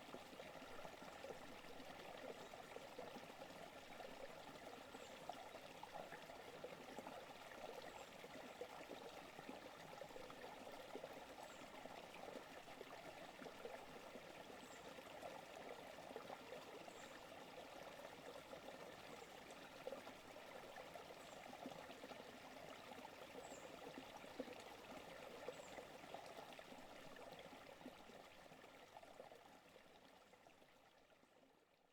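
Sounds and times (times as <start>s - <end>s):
creek trickling: 0.0s - 31.8s.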